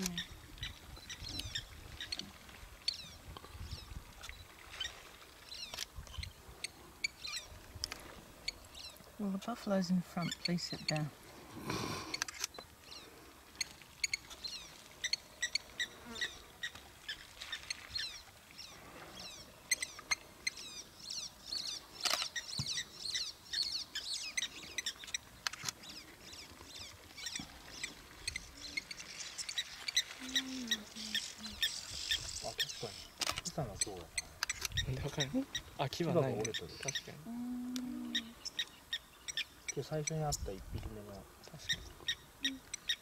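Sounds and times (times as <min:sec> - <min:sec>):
small birds chirping: 0:00.0 - 0:07.6, 0:08.4 - 0:11.2, 0:11.8 - 0:43.0.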